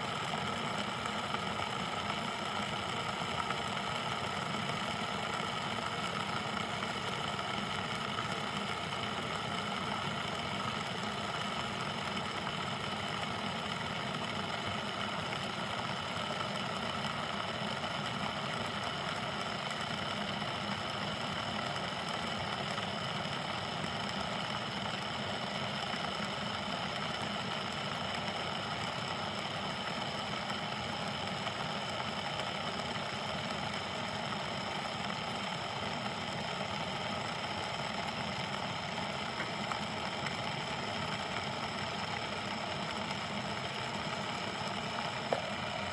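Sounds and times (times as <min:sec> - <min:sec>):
kettle heating water hiss: 0:00.0 - 0:45.9.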